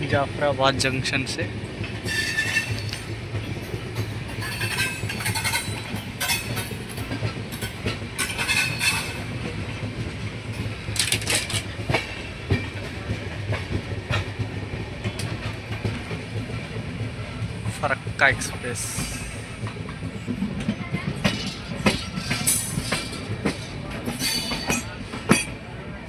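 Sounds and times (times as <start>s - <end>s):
train rumbling past: 0.0s - 26.0s
wheels clacking over rail joints: 0.1s - 25.7s.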